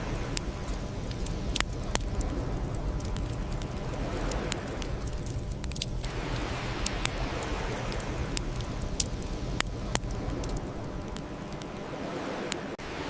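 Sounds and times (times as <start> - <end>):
sharp pops of burning wood: 0.0 - 11.8
bonfire crackling: 0.0 - 13.0.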